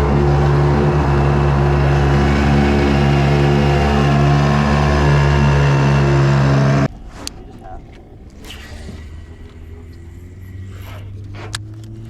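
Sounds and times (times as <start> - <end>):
outboard motor running: 0.0 - 6.9, 8.8 - 12.0.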